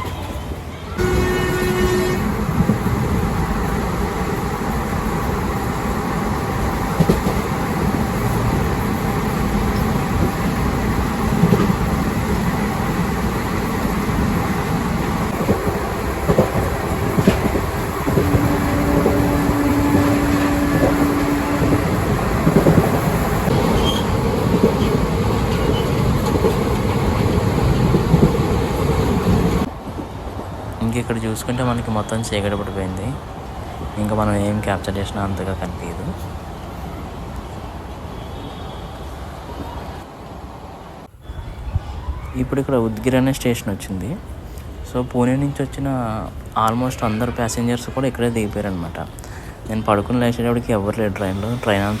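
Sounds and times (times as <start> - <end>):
train wheels rumbling on rails: 0.0 - 41.1, 42.5 - 52.0.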